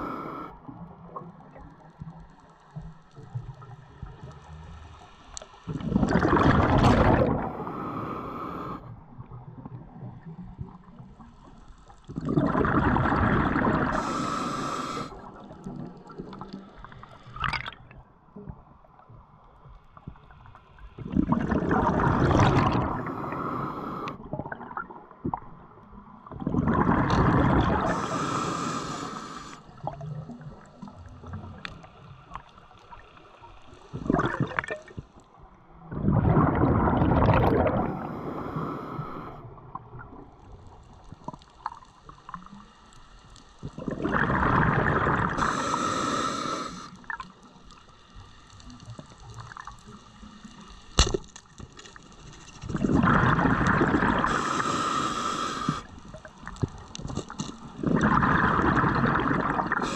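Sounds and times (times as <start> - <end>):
underwater bubbling and gurgling: 0.0 - 59.9
water noise: 0.0 - 59.9.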